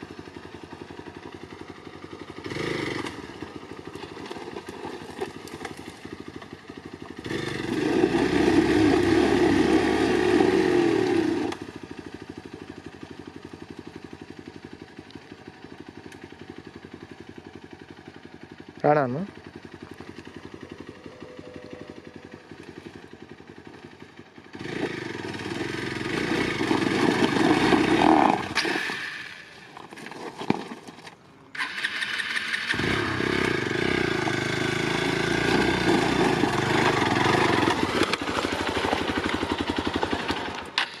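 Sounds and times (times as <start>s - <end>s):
motorcycle engine running: 0.0s - 29.9s, 31.4s - 41.0s.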